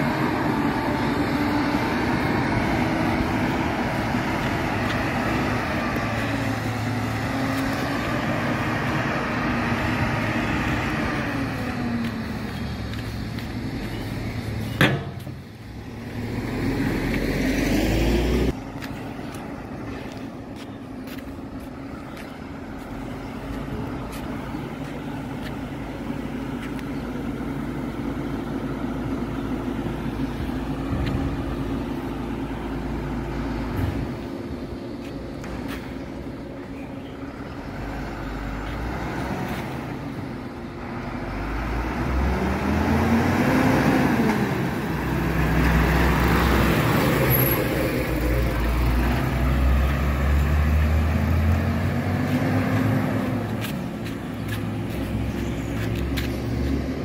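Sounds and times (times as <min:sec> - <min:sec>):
diesel truck engine idling and revving: 0:00.0 - 0:57.0.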